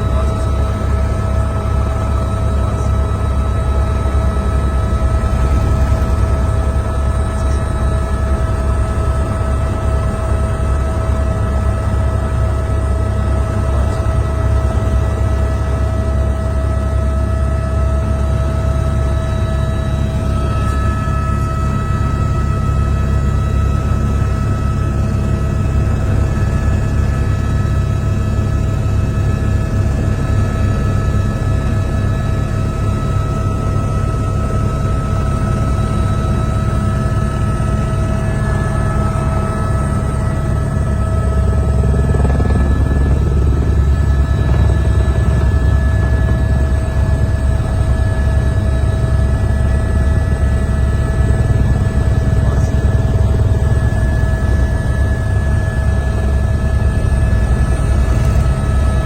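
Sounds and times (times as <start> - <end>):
helicopter rotor rumble: 0.0 - 59.0
turbine whine: 0.0 - 59.0.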